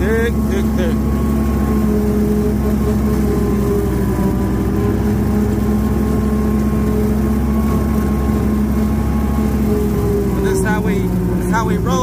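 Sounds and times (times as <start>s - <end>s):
rotary cutter mowing brush: 0.0s - 12.0s
tractor diesel engine running: 0.0s - 12.0s.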